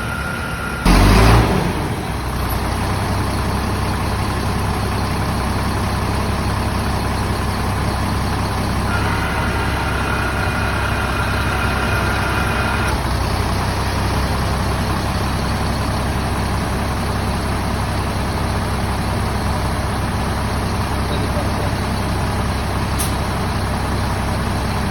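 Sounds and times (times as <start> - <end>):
diesel bus idling: 0.0 - 24.9.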